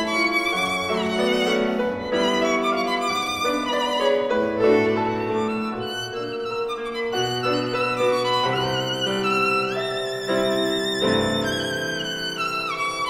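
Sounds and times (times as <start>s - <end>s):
violin melody: 0.0s - 13.0s.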